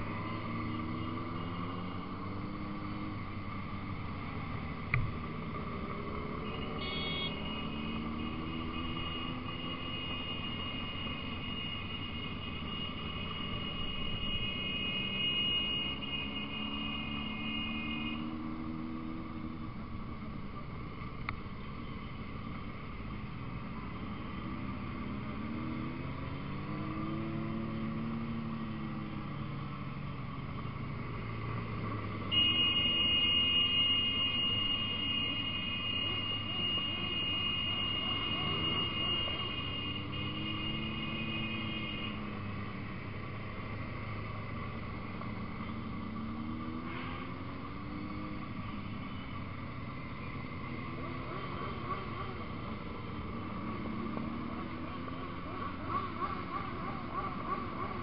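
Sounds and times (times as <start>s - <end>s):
motorcycle engines running: 0.0s - 58.0s.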